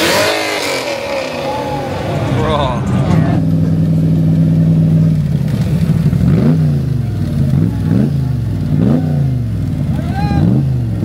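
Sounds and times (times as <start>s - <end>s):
engine revving: 0.0s - 11.0s
car engine idling: 0.2s - 11.0s.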